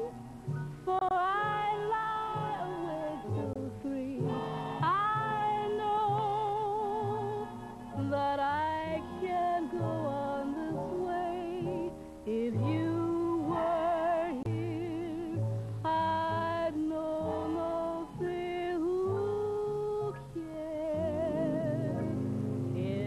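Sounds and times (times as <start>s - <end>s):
woman singing jazz: 0.8s - 23.0s.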